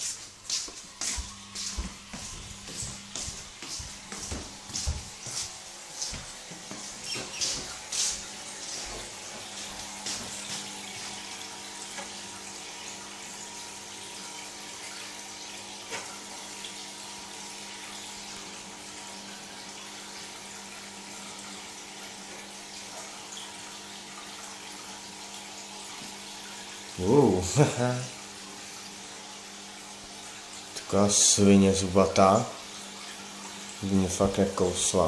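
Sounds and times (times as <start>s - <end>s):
aquarium bubbles and running water: 0.0s - 35.0s.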